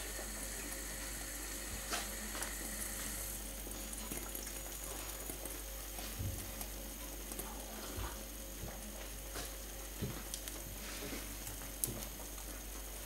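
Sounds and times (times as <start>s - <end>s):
omelette sizzling in pan: 0.0s - 13.0s.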